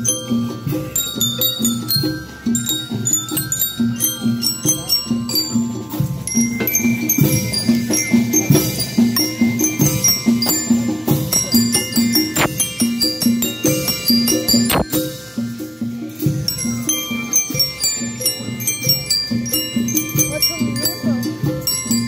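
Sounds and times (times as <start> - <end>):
bell lyres melody: 0.0 - 22.0
marching drums beat: 0.0 - 22.0.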